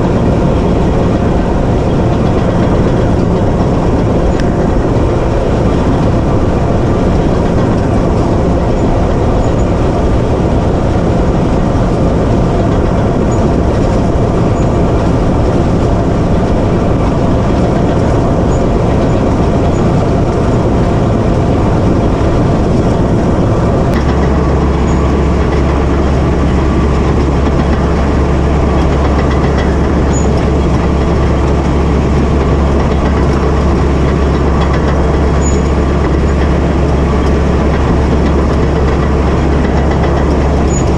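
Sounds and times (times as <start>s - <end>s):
deep steady hum: 0.0s - 40.9s
diesel engine under load: 0.0s - 40.9s
steel tracks clanking: 0.0s - 40.9s.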